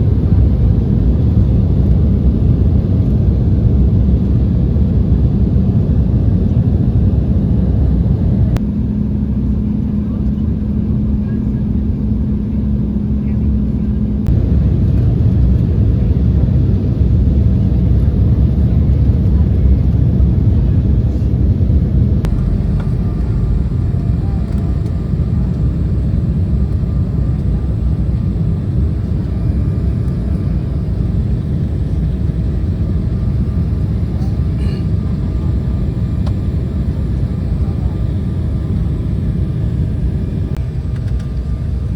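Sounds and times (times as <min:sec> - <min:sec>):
jet engine rumble inside cabin: 0:00.0 - 0:41.9.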